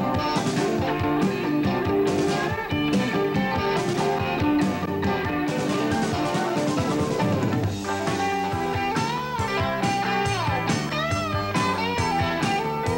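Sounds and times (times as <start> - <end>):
electric guitar: 0.0 - 12.9
rock band playing: 0.0 - 12.9.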